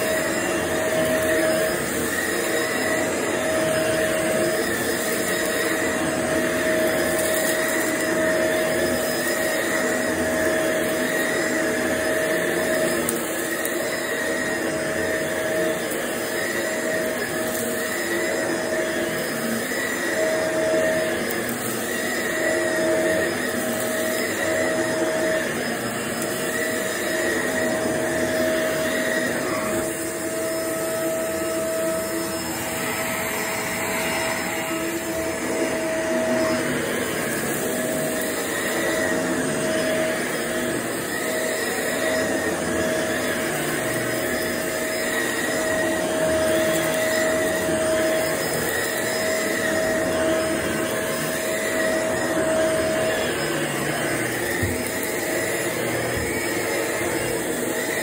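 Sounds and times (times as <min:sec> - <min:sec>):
vacuum cleaner on carpet: 0:00.0 - 0:58.0.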